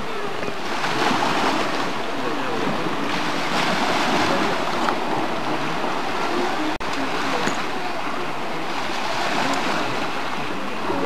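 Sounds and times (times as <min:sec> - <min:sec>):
waves washing against rocks: 0:00.0 - 0:11.0
wind on microphone: 0:00.0 - 0:11.0.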